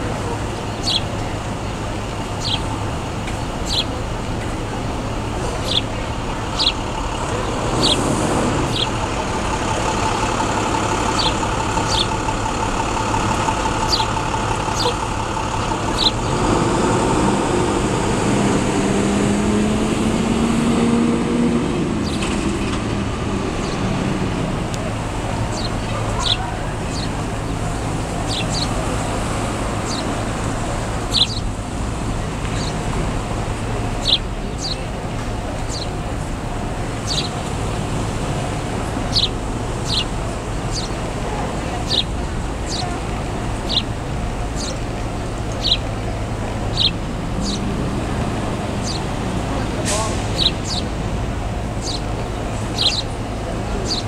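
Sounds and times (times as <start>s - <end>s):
sparrows chirping: 0.0s - 54.0s
traffic hum: 0.0s - 54.0s.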